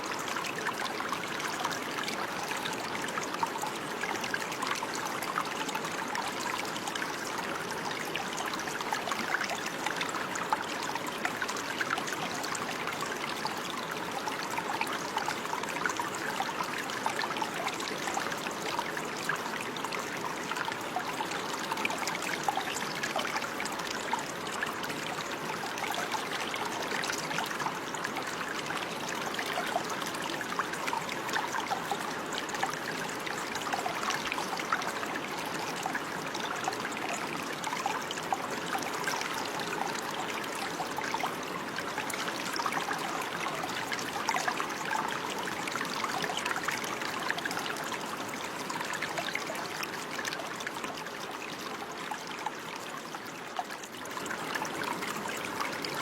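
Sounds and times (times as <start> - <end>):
water trickling over stones: 0.0 - 56.0.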